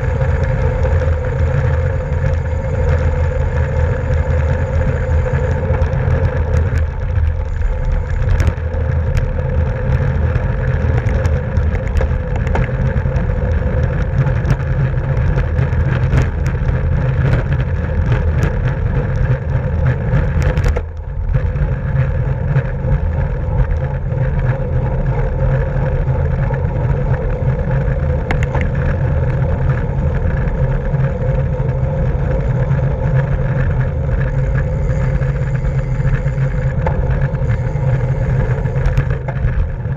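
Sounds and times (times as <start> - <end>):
bicycle hum: 0.0 - 39.9
wind rushing over microphone: 0.0 - 39.9.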